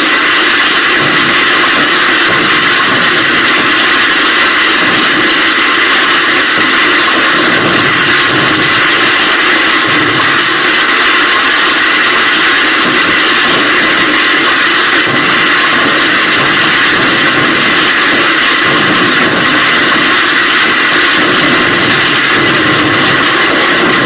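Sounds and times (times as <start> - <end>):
firecrackers crackling: 0.0 - 24.0.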